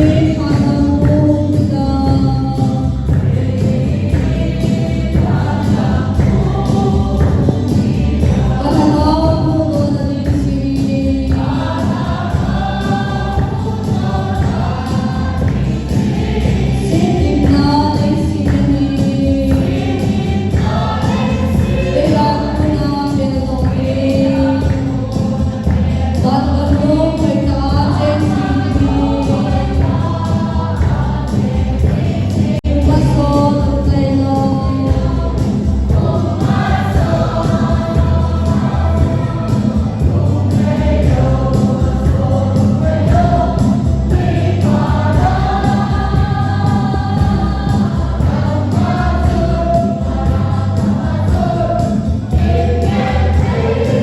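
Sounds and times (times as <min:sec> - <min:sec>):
choir singing gospel song: 0:00.0 - 0:54.0.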